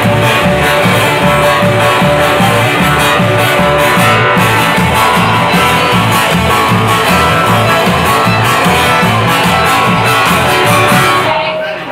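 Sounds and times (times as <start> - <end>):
pulsing bass line: 0.0 - 11.3
drums: 0.0 - 11.9
strummed guitar: 0.0 - 11.9.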